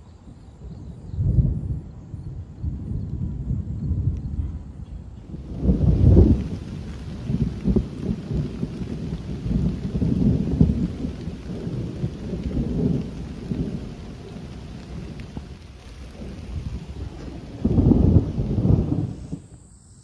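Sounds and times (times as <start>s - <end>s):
thunder rumbling: 0.0s - 19.7s.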